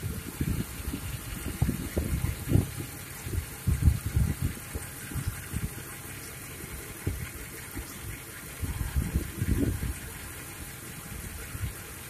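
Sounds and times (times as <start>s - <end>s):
car engine idling: 0.0s - 12.0s
low thumps and rumbles: 0.0s - 12.0s.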